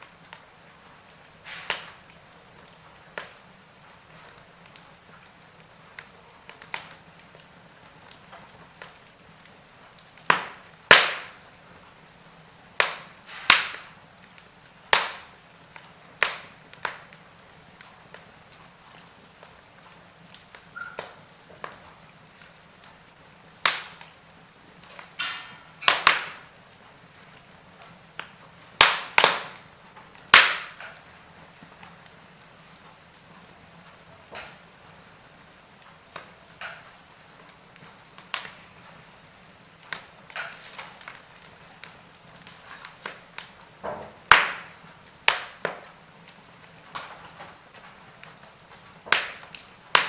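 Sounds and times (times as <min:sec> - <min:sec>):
faint steady hiss: 0:00.0 - 0:50.0
wood fire crackling and popping: 0:00.0 - 0:50.0.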